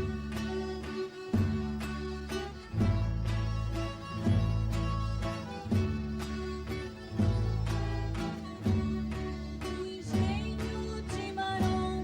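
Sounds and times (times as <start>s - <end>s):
deep bass notes: 0.0s - 12.0s
strummed acoustic guitar: 0.0s - 12.0s.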